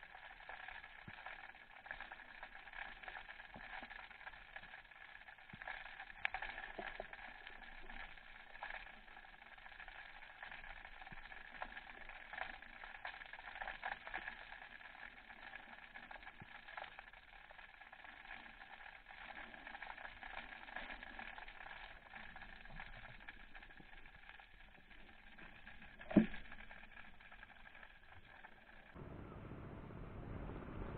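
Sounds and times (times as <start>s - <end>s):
faint underwater clicks and crackles: 0.0s - 29.0s.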